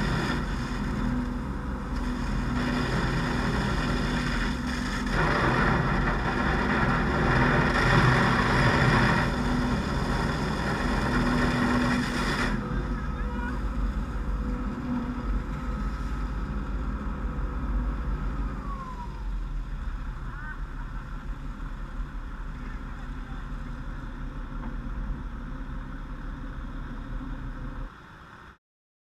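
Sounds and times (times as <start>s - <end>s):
faint falling whine: 0.0s - 28.6s
pump and engine running: 0.0s - 28.6s.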